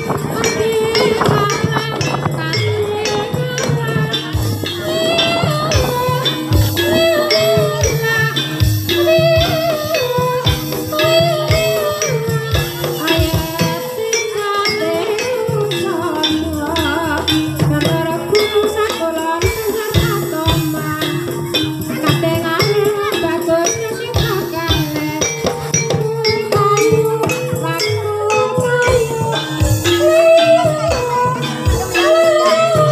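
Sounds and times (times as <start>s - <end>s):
drum strokes: 0.0s - 32.9s
gamelan struck metal melody: 0.0s - 32.9s
jingling rattling percussion: 0.0s - 32.9s
wavering high melodic line: 0.0s - 32.9s.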